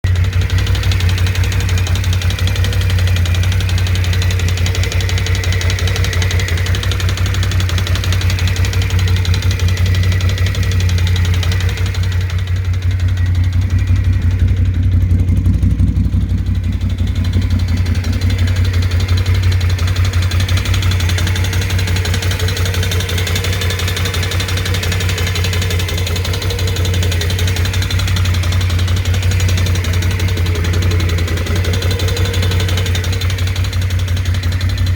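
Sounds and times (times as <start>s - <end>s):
engine idling: 0.0s - 34.9s
engine knock: 0.0s - 34.9s.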